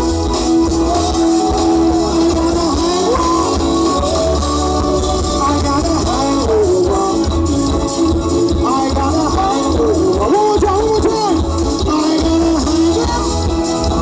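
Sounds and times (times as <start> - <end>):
drum kit: 0.0 - 14.0
electric guitar: 0.0 - 14.0
keyboard: 0.0 - 14.0.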